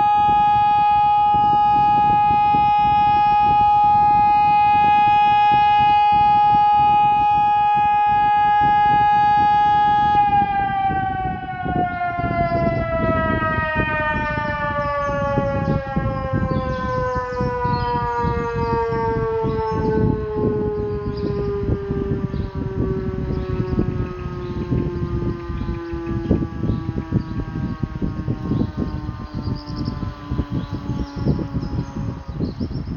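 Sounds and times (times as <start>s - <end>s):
siren winding down: 0.0s - 32.6s.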